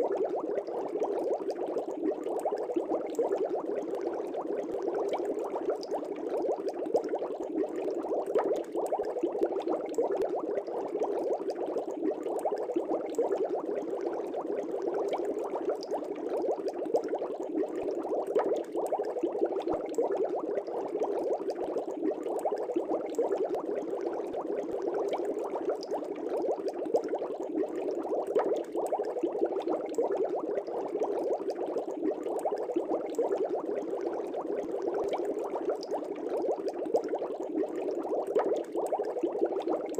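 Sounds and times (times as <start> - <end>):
aquarium air bubbles: 0.0 - 39.9.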